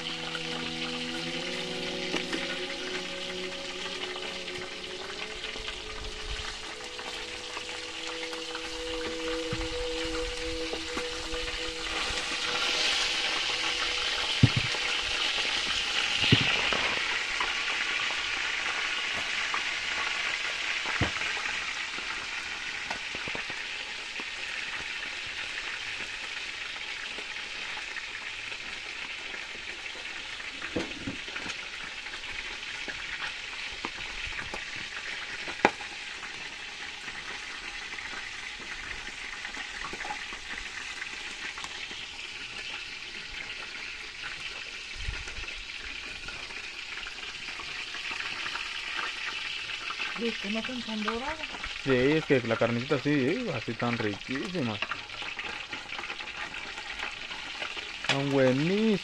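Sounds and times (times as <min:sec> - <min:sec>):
fish frying in hot oil: 0:00.0 - 0:59.0.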